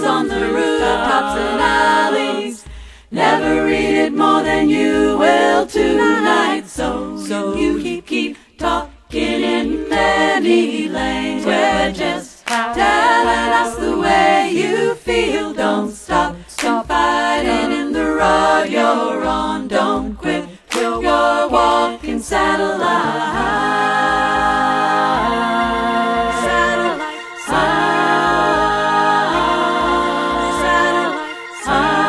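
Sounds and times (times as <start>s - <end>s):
vocal group singing in harmony: 0.0s - 32.0s.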